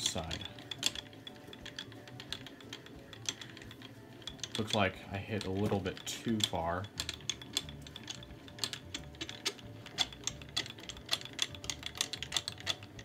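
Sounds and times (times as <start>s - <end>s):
handwheel mechanical clicking: 0.0s - 13.0s.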